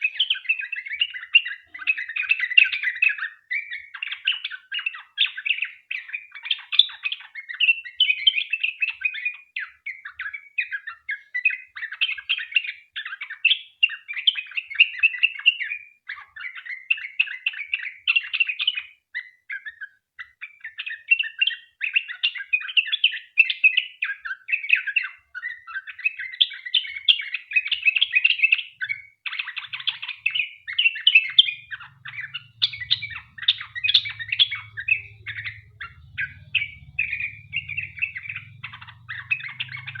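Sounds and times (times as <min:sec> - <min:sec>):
bird chattering song: 0:00.0 - 0:40.0.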